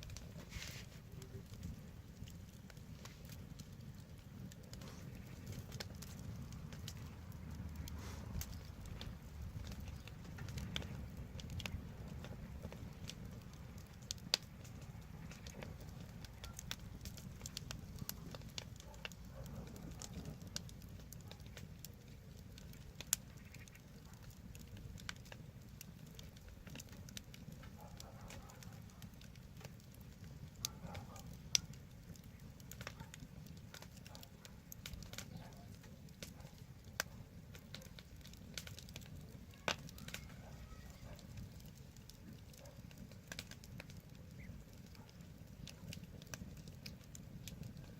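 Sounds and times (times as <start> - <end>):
low rumble of flames: 0.0 - 47.9
wood fire crackling and popping: 0.0 - 47.9.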